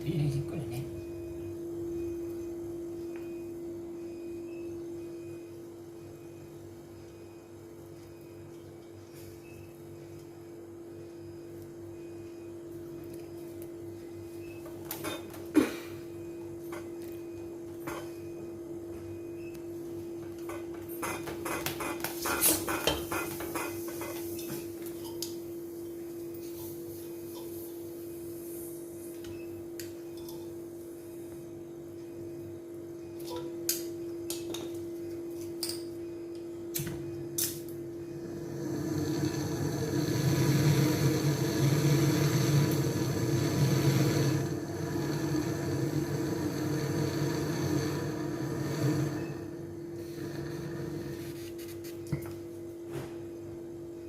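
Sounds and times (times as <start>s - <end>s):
steady electric hum: 0.0s - 54.0s.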